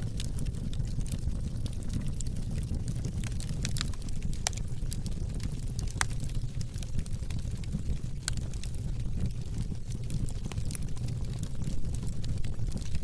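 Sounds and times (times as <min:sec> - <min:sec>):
fire crackling: 0:00.0 - 0:13.0
low rumble of burning: 0:00.0 - 0:13.0.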